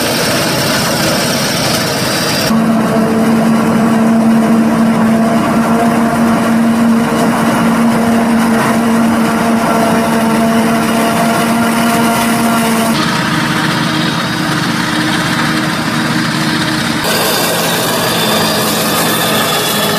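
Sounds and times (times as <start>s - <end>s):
forage harvester machine hum: 0.0s - 19.9s.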